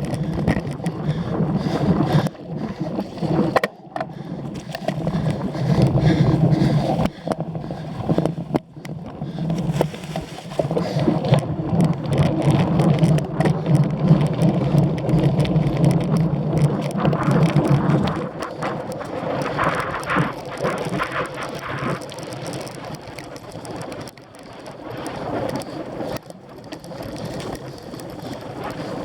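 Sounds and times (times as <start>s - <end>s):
bike rattling clicks and knocks: 0.0s - 29.0s
wind rumbling on microphone: 0.0s - 29.0s.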